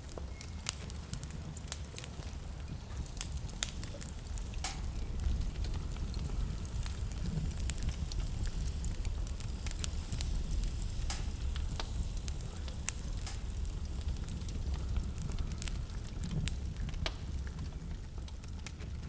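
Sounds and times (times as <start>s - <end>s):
fire flames rumbling: 0.0s - 19.0s
fire pops and snaps: 0.0s - 19.0s.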